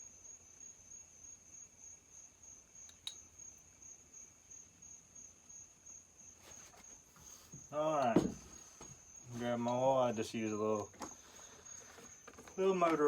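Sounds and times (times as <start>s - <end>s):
high-pitched cricket chirping: 0.0s - 13.0s.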